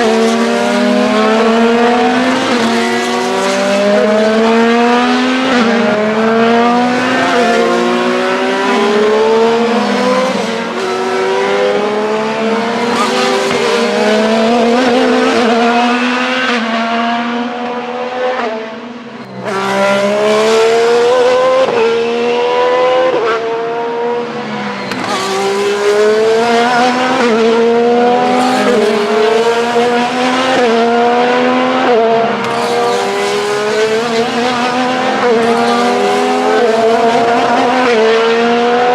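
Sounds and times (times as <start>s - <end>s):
race car engines at full throttle: 0.0s - 38.9s.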